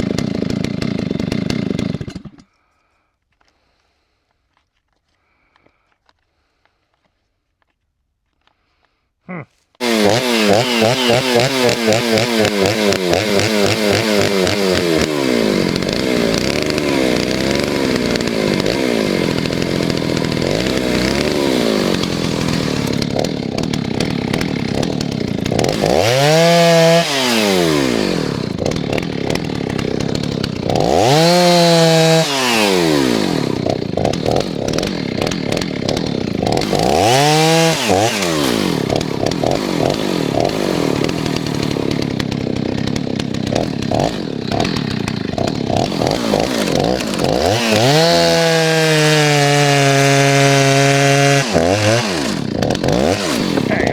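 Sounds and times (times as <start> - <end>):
chainsaw idling and revving: 0.0 - 2.6, 9.8 - 53.9.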